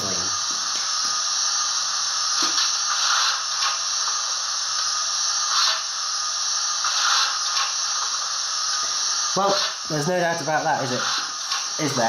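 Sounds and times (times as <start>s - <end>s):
steady steam hiss: 0.0s - 12.0s.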